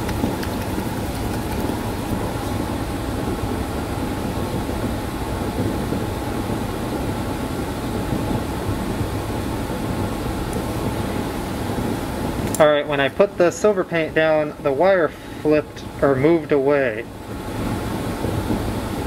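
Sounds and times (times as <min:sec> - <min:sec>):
ventilation rushing air: 0:00.0 - 0:19.0.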